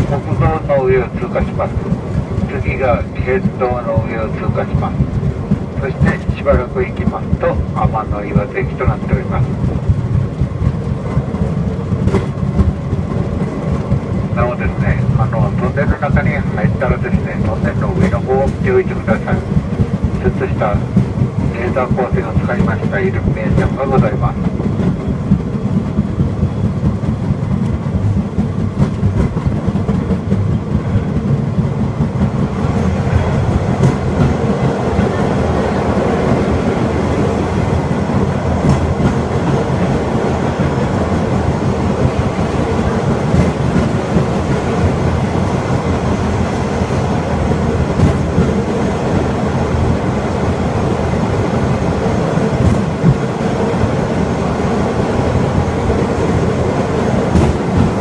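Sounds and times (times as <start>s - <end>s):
rail cart rumbling on track: 0.0s - 58.0s.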